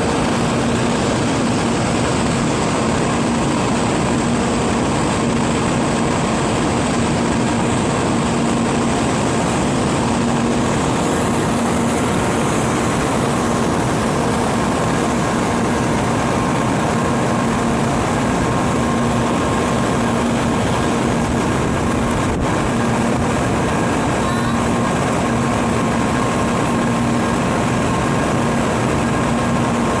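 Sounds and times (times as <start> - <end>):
train mechanical hum: 0.0 - 30.0
faint droning tones: 6.0 - 30.0.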